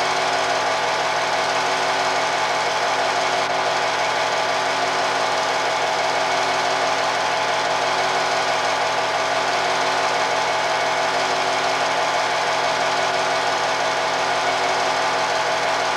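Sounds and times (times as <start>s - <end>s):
film projector clatter: 0.0s - 15.9s.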